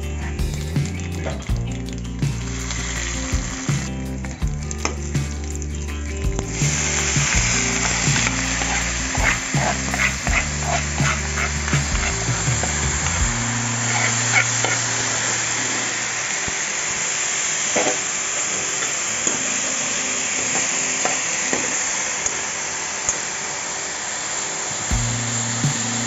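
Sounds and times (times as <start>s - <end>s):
background music: 0.0s - 26.0s
leaves sizzling in oil: 0.0s - 26.0s.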